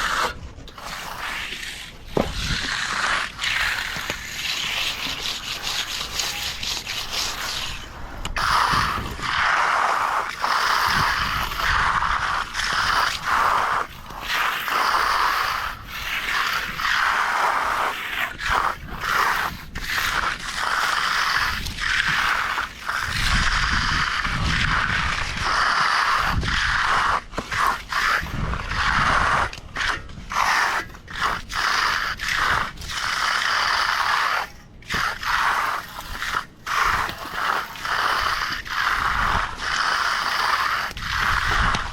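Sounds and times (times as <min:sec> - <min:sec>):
hand tool scraping concrete: 0:00.0 - 0:41.9.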